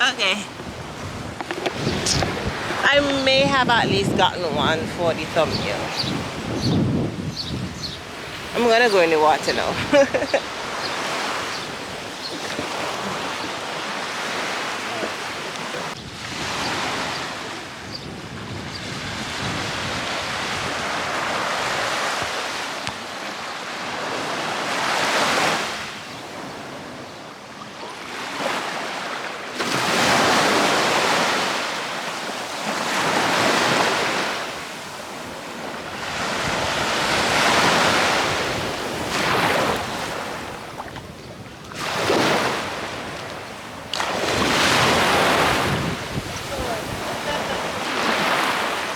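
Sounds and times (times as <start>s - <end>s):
sea surf breaking on beach: 0.0s - 48.9s.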